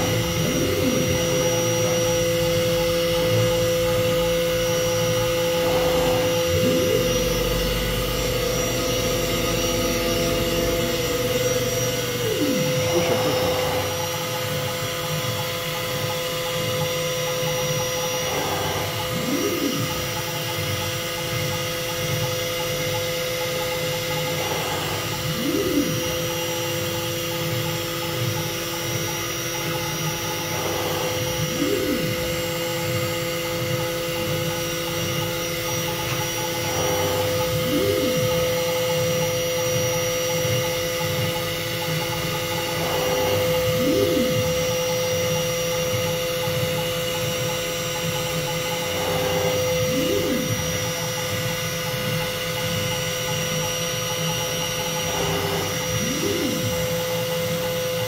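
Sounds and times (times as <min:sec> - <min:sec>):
axis motor whining: 0:00.0 - 0:58.0
router spindle whine: 0:00.0 - 0:58.0.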